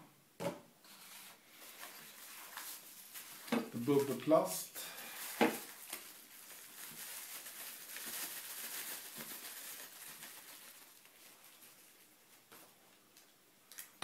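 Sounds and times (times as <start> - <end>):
bubble wrap rustling: 0.8 - 13.1.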